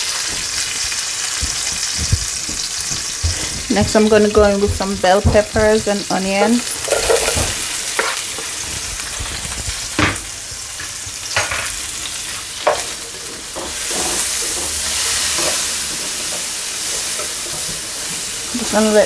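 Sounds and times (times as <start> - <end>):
vegetables sizzling in a skillet: 0.0 - 19.0.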